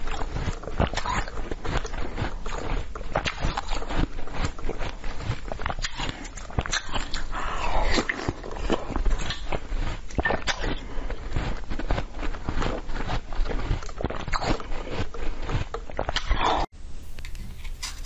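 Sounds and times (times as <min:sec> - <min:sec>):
ice crunching between teeth: 0:00.0 - 0:18.0.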